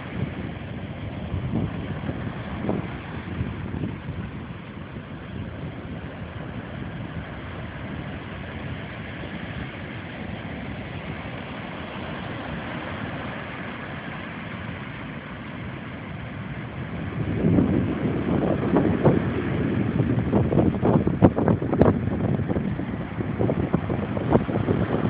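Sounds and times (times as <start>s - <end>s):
surf washing up beach: 0.0s - 25.0s.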